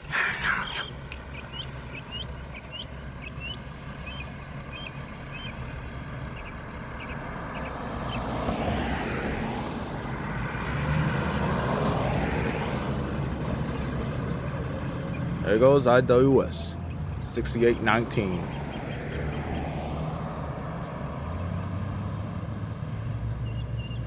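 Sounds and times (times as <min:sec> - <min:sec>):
garbage truck diesel engine: 0:00.0 - 0:24.0
tyre road noise: 0:00.0 - 0:24.0.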